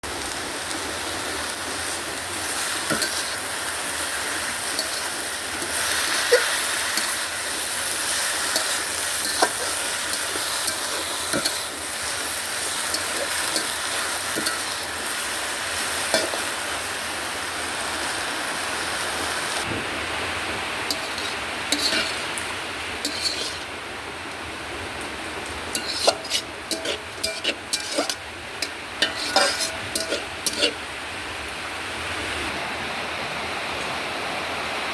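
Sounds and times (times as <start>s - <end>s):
food sizzling in a pan: 0.0s - 19.7s, 20.3s - 32.0s.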